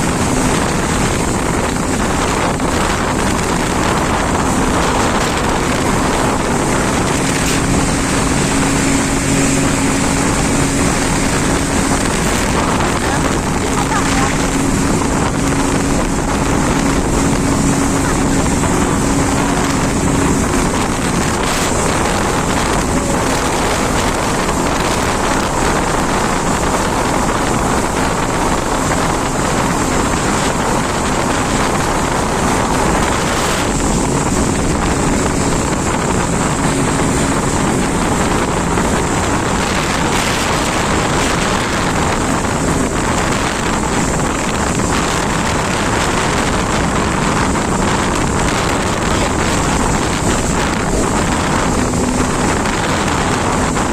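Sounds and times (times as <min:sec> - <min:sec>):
jet ski engine running: 0:00.0 - 0:53.9
wind buffeting microphone: 0:00.0 - 0:53.9.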